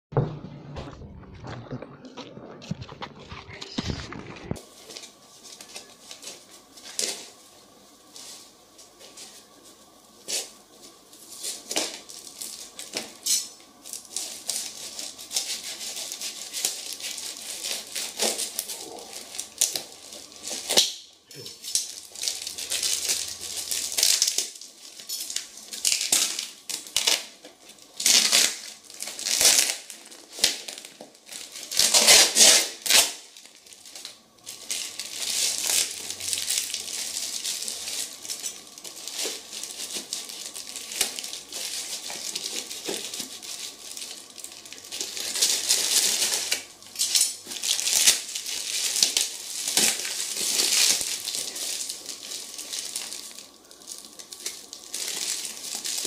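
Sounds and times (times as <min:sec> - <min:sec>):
plastic bag crinkling and ripping: 0:00.9 - 0:56.0.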